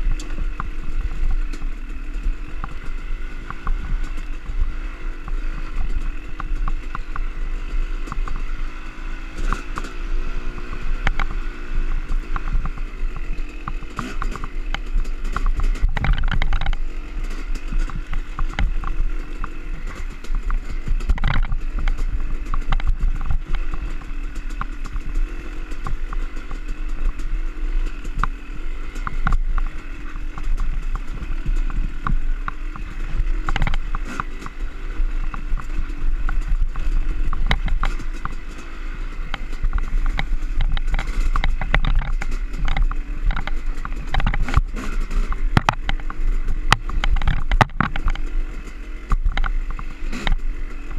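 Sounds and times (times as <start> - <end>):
bike clattering over rough ground: 0.0 - 50.9
dirt bike engine: 0.0 - 50.9.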